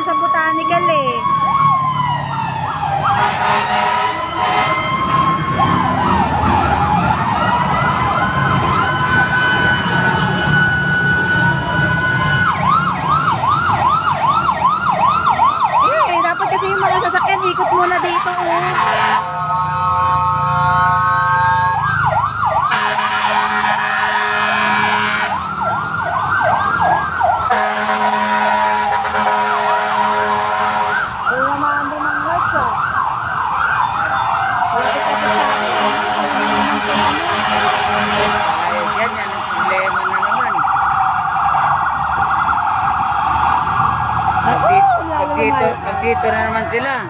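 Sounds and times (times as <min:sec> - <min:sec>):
fire truck sirens: 0:00.0 - 0:47.0.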